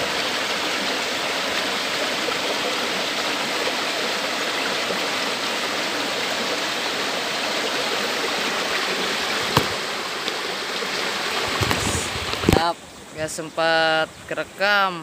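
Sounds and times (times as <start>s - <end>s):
water rushing through stony ditch: 0.0s - 12.8s.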